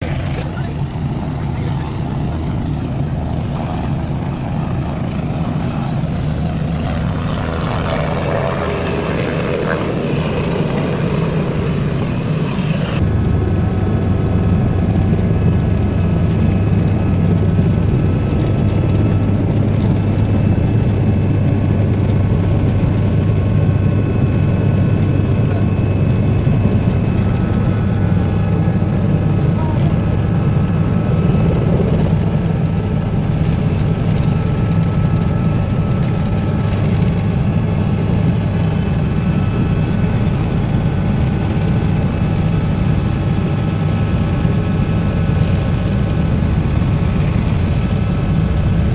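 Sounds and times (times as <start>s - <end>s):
helicopter engine and rotor: 0.0s - 48.9s
whining tones: 0.0s - 48.9s.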